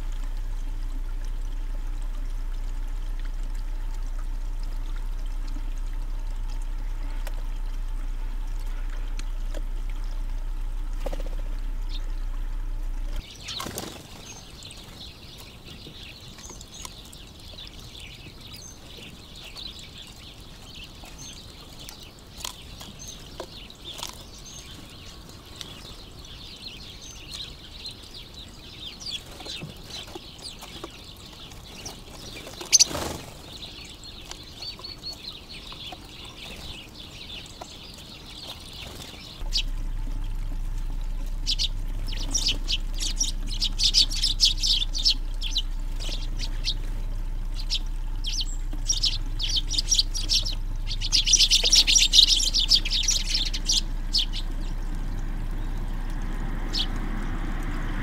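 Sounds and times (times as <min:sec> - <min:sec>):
fountain splashing: 0:00.0 - 0:58.0
low steady hum: 0:00.0 - 0:58.0
sparrows chirping: 0:03.0 - 0:58.0.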